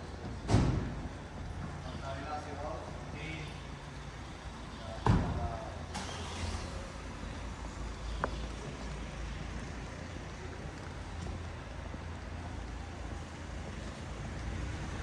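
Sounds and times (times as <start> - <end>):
motor traffic rumble: 0.0 - 15.0.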